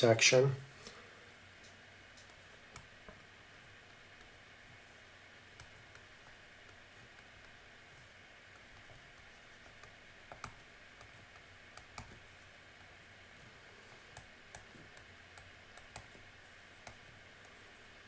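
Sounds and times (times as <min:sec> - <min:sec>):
low steady hiss: 0:00.0 - 0:18.0
faint clicks and taps of writing: 0:01.6 - 0:04.9, 0:05.5 - 0:17.8.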